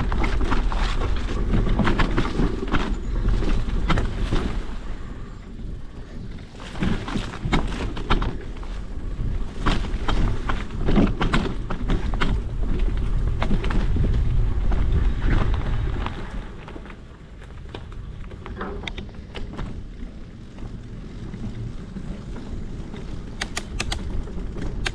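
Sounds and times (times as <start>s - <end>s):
bicycle rattling on rough trail: 0.0s - 24.9s
wind buffeting microphone: 0.0s - 24.9s.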